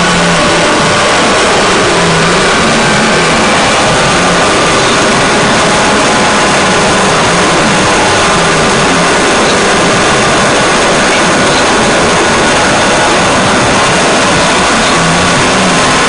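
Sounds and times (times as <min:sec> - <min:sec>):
distorted hiss noise music: 0:00.0 - 0:16.0
faint steady high tones: 0:00.0 - 0:16.0
low wavering hum: 0:00.0 - 0:16.0.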